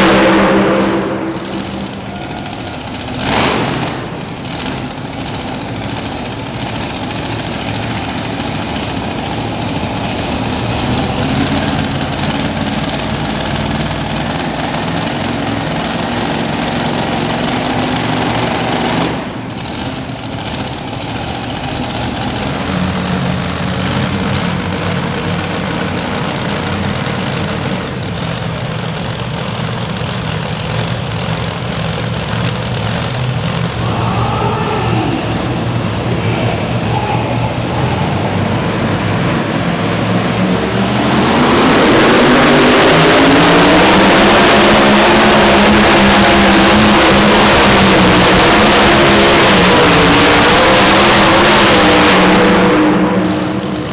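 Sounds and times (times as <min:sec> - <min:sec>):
truck engine running hard: 0:00.0 - 0:53.9.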